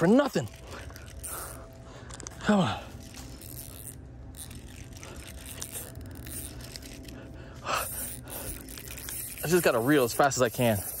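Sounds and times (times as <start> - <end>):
mechanical handling noise: 0.0 - 11.0
toy fishing reel cranking: 0.0 - 11.0.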